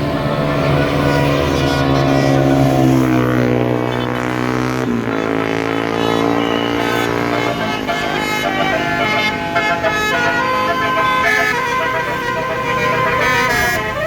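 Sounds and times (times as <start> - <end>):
multi-trumpet air horn playing tune: 0.0 - 14.0.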